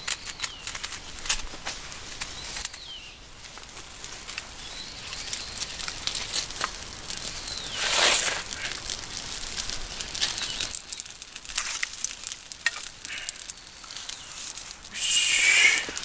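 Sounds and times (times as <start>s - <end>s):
kindling fire crackling: 0.0s - 16.0s
sticks laid on fire: 0.0s - 16.0s.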